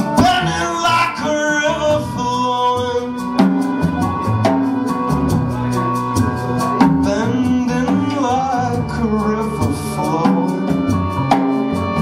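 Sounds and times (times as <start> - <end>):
acoustic guitar: 0.0 - 12.0
drums keeping quick beat: 0.0 - 12.0
upright bass: 0.0 - 12.0.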